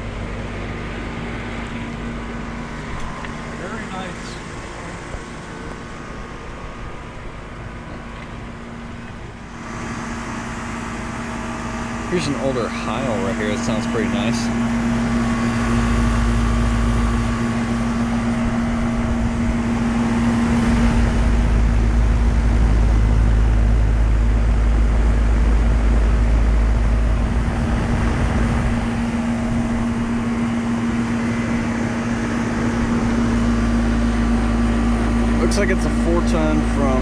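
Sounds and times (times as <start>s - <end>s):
compressor hum: 0.0s - 37.0s
condenser fan rushing: 0.0s - 37.0s
deep low rumble: 0.0s - 37.0s.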